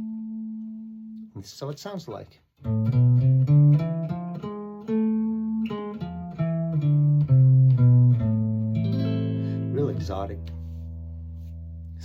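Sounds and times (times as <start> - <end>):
guitar playing a scale: 0.0 - 1.6, 2.6 - 12.0.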